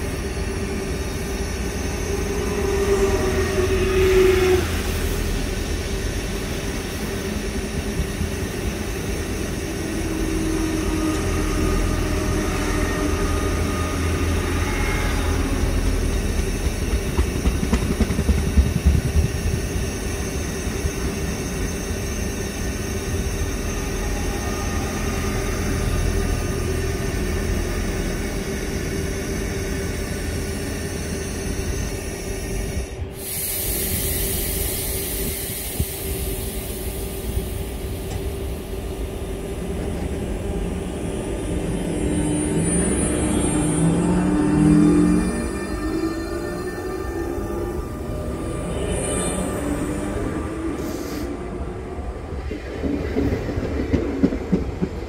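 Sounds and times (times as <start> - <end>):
train hum: 0.0 - 55.0
train wheels rumbling on rail: 0.0 - 55.0.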